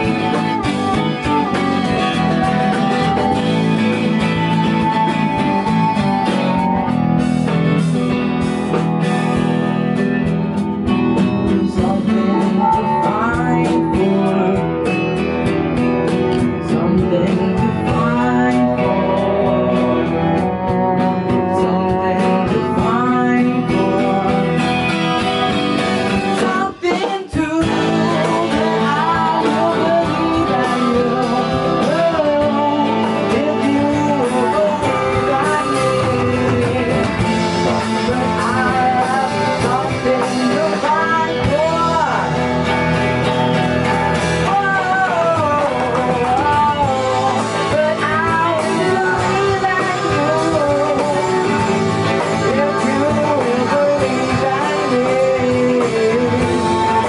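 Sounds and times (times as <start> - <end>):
acoustic guitar: 0.0 - 57.0
drums: 0.0 - 57.0
man singing: 0.0 - 57.0.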